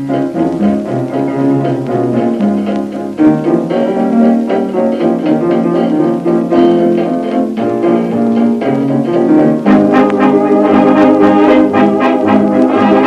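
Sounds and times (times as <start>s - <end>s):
bowed strings: 0.0s - 13.0s
piano: 0.0s - 13.0s
plucked bass line: 0.0s - 13.0s.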